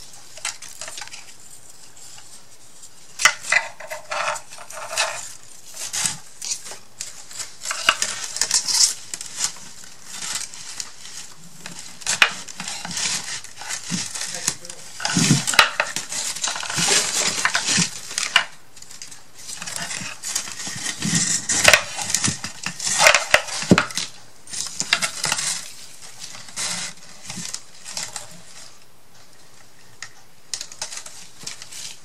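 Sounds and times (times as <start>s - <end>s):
paper rustling: 0.0s - 32.0s.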